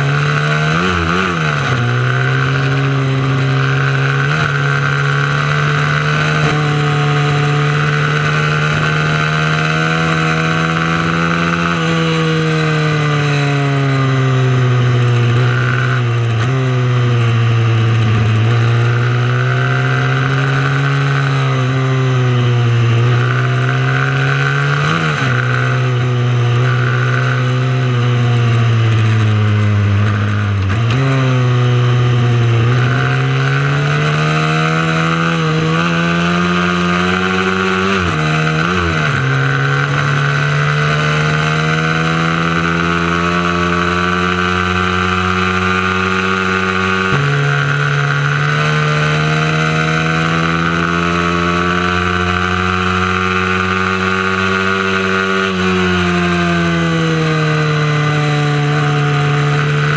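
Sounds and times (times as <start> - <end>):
small motorcycle engine running hard: 0.0 - 59.9.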